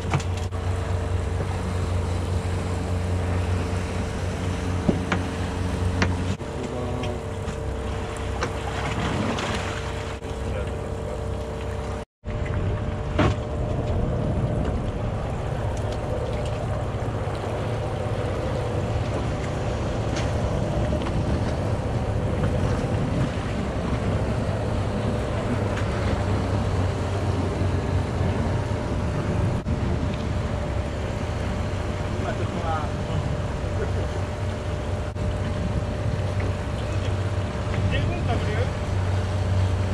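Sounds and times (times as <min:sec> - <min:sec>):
boat engine humming: 0:00.0 - 0:39.9
sea noise: 0:00.0 - 0:39.9
wind: 0:00.0 - 0:39.9.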